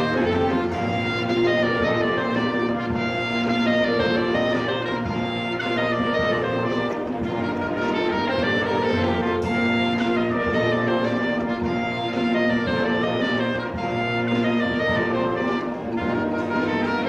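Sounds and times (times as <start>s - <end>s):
concert band playing chords: 0.0s - 17.0s.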